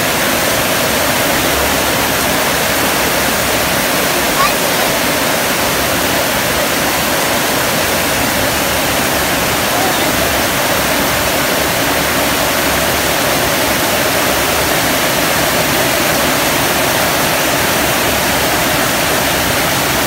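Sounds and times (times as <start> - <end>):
heavy rain on metal roofs: 0.0 - 20.0.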